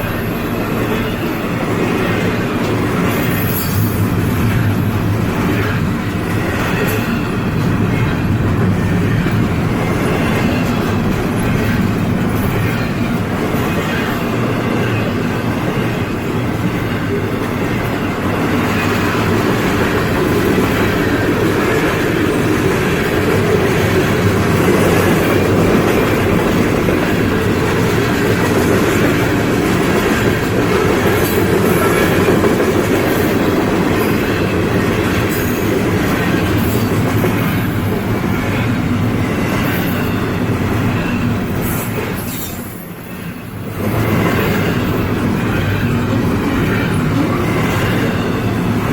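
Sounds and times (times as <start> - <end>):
train passing: 0.0 - 48.9.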